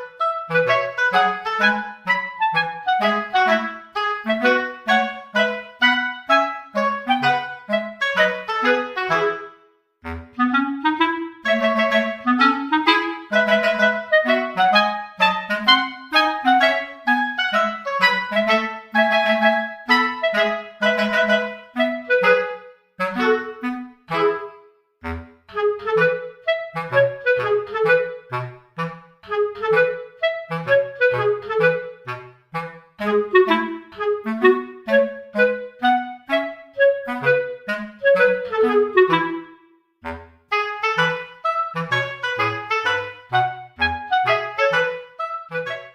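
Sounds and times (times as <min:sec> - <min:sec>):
bouncy clarinet tune: 0:00.0 - 0:45.9.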